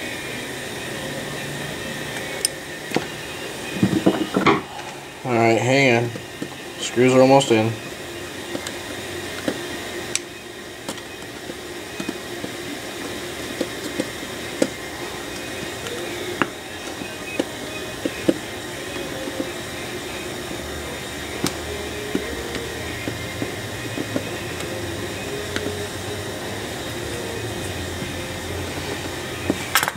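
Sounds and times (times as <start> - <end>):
steady background hum: 0.0 - 29.9.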